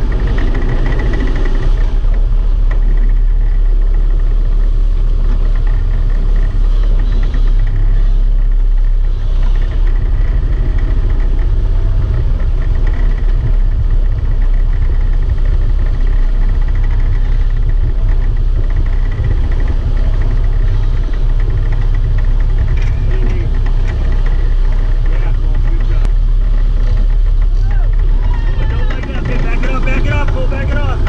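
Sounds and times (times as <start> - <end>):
boat engines rumbling: 0.0 - 31.0.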